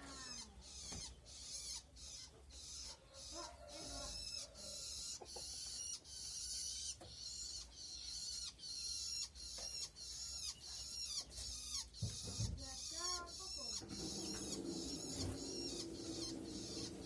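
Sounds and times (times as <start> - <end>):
nestlings squeaky begging calls: 0.0 - 17.0.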